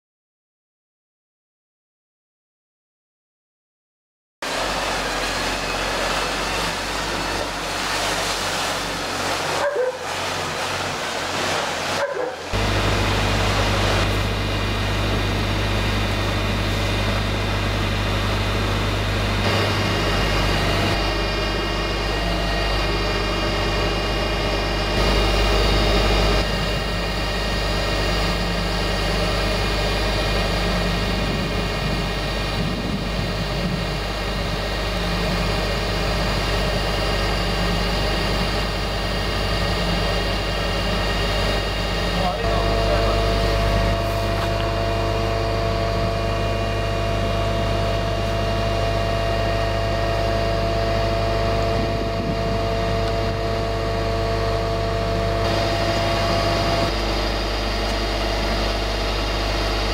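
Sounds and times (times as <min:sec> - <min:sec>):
diesel truck engine running: 0:04.4 - 0:59.9
steady high whine: 0:04.4 - 0:59.9.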